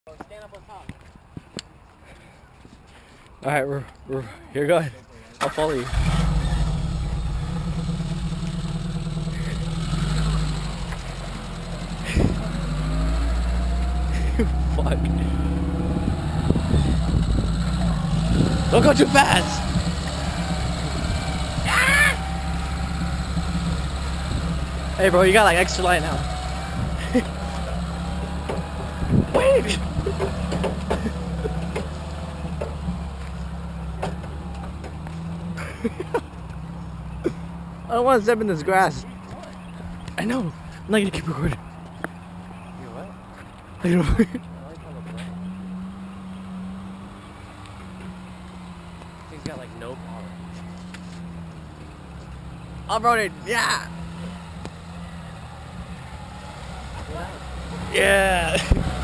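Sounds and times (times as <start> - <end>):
vehicle engine idling: 5.4 - 59.0.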